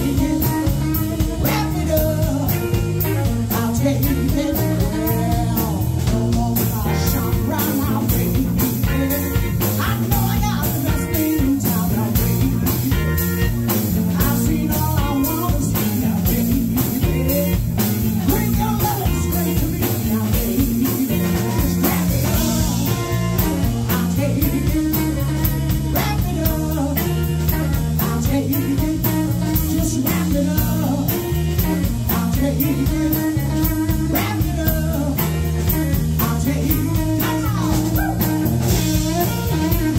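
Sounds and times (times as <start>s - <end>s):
drum kit beat: 0.0s - 39.9s
electric bass: 0.0s - 39.9s
electric guitar: 0.0s - 39.9s
woman singing: 0.0s - 39.9s.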